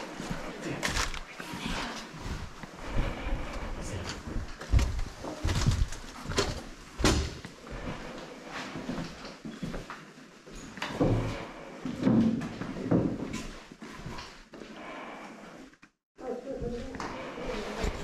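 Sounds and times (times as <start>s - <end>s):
footsteps on debris-strewn floor: 0.0s - 15.0s, 16.4s - 18.0s.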